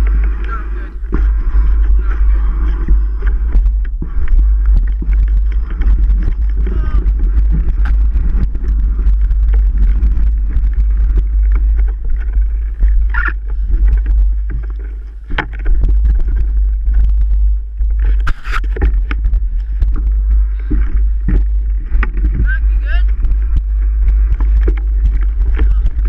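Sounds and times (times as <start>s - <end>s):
bike rattling over rough ground: 0.0s - 26.0s
wind buffeting microphone: 0.0s - 26.0s.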